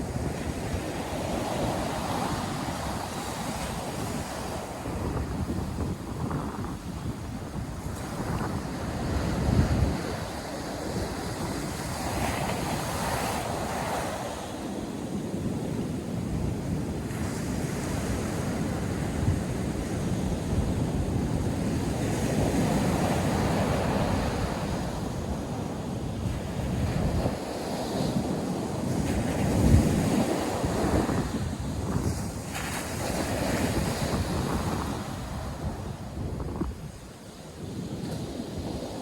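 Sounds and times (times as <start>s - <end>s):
surf washing onto beach: 0.0s - 39.0s
wind buffeting microphone: 0.0s - 39.0s.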